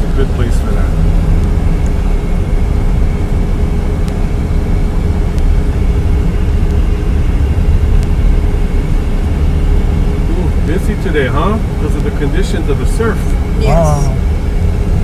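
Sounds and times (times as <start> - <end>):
faint steady hum: 0.0 - 15.0
vehicle road rumble: 0.0 - 15.0.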